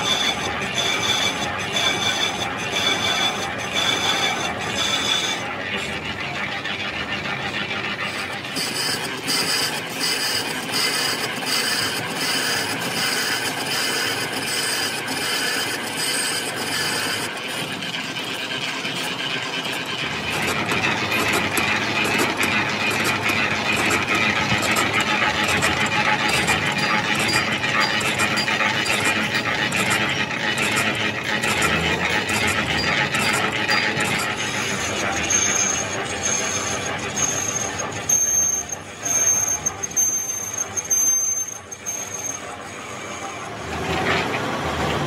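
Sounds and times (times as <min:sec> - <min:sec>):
lathe running with mechanical clatter: 0:00.0 - 0:45.0.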